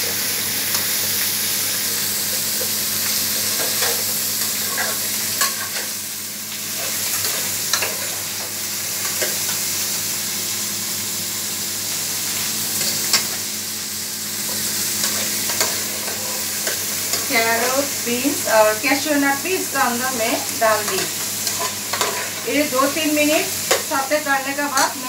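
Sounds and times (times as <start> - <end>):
vegetables sizzling in a pot: 0.0 - 25.0.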